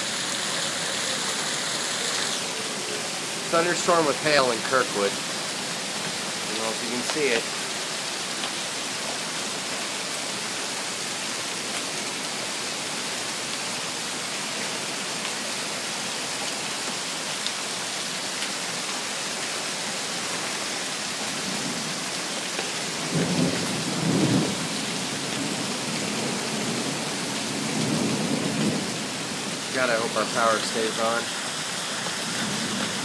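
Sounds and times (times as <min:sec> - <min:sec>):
rain and hail falling: 0:00.0 - 0:33.0.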